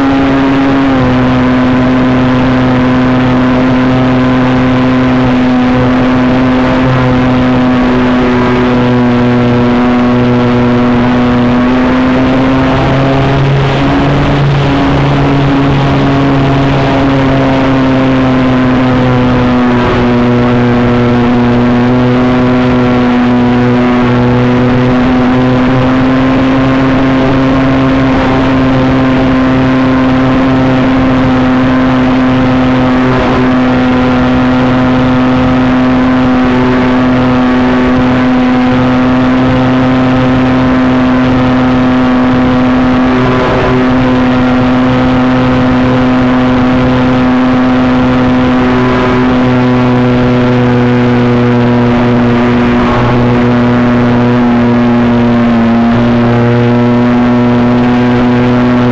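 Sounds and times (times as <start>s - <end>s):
model airplane motor drone: 0.0s - 58.9s.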